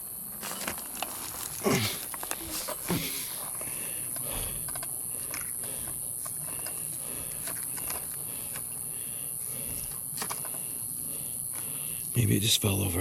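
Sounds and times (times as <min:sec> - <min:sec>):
night insects droning: 0:00.0 - 0:13.0
faint rustles and clicks: 0:00.3 - 0:11.8.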